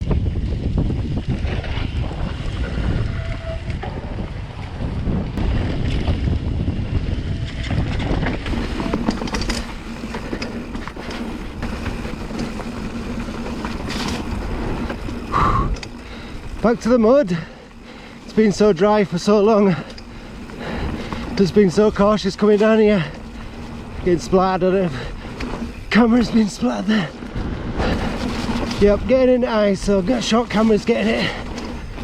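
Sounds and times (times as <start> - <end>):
bike rattles and knocks: 0.0 - 32.0
wind buffeting microphone: 0.0 - 32.0.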